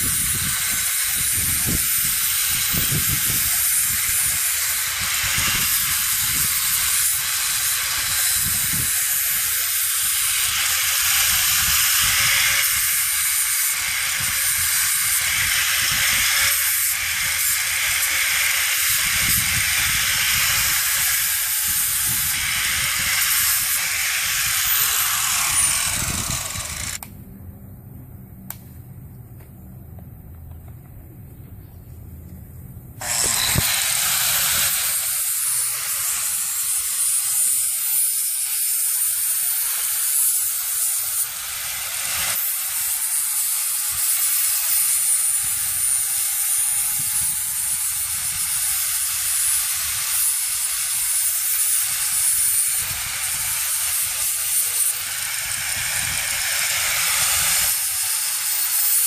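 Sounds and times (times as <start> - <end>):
hoof grinder rasping: 0.0 - 27.0, 33.0 - 59.0.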